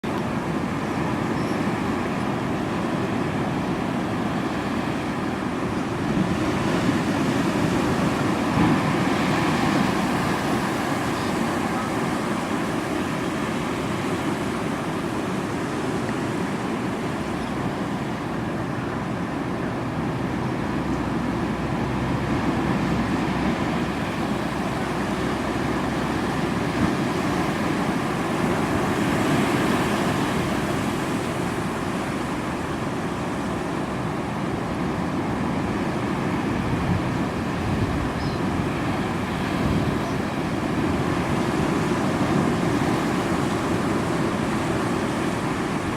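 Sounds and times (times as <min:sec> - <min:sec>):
ocean surf breaking: 0:00.1 - 0:45.9.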